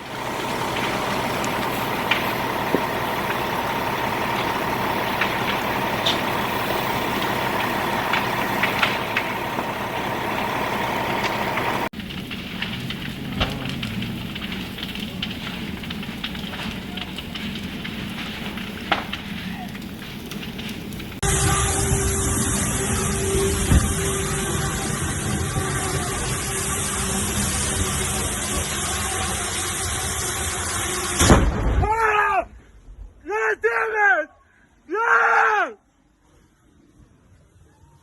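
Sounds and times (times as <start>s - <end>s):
truck engine running: 0.0s - 31.3s
low hum: 0.0s - 31.8s
fire crackling and popping: 0.0s - 32.2s.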